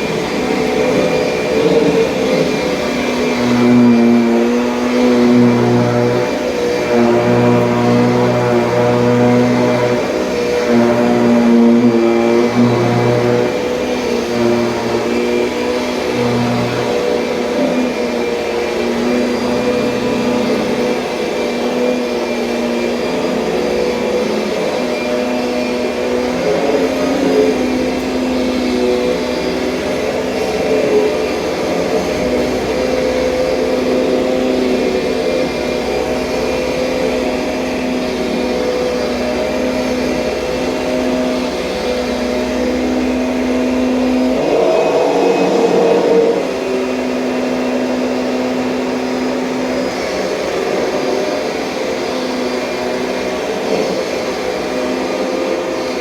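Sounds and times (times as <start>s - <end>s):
vacuum cleaner motor hum: 0.0s - 56.0s.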